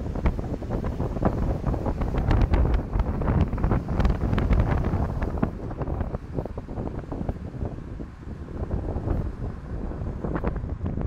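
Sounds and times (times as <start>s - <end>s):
car driving in traffic: 0.0s - 11.0s
wind buffeting microphone: 0.0s - 11.0s.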